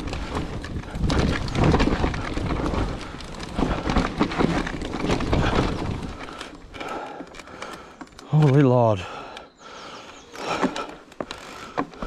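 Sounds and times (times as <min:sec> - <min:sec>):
bike knocking and rattling: 0:00.0 - 0:12.0
bike tyres rumbling on dirt: 0:00.0 - 0:12.0.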